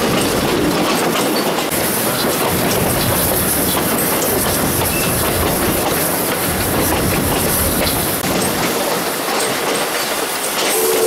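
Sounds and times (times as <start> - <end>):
train wheels on rail: 0.0 - 11.0
wheels clacking over rail joints: 0.0 - 11.0.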